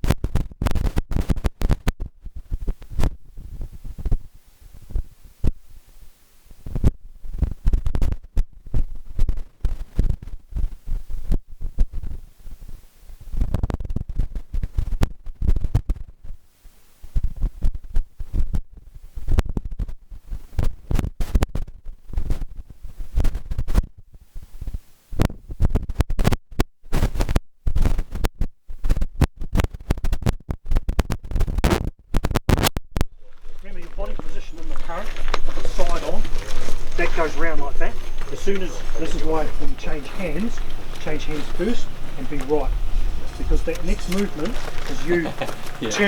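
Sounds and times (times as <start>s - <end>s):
microphone buffeting rumbles: 0.0s - 26.0s, 33.0s - 46.0s.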